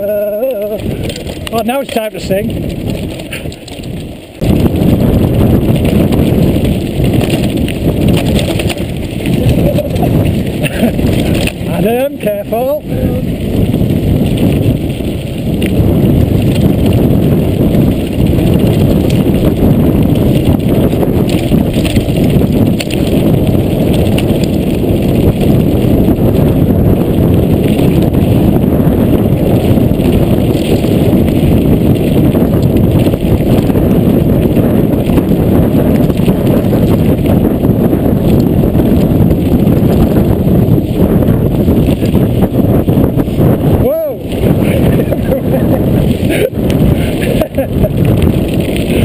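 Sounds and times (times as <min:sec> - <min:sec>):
mountain bike rolling over gravel: 0:00.0 - 0:49.0.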